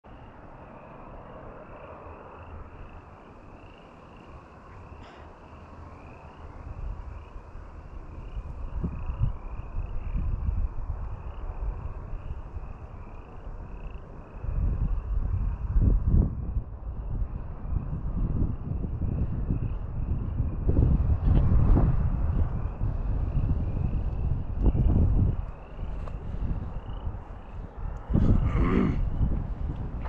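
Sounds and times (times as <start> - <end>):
wind buffeting microphone: 1.8 - 30.0.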